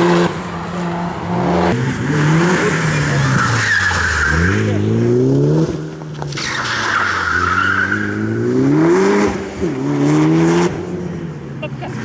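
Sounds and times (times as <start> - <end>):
tyres skidding on dust: 0.0 - 9.7
rally car engine revving: 0.0 - 12.0.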